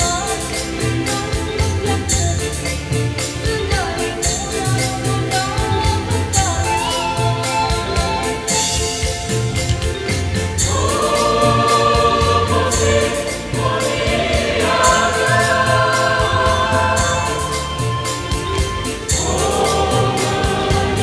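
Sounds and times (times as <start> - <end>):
accompaniment with steady beat: 0.0 - 21.0
mixed choir singing in harmony: 0.0 - 21.0.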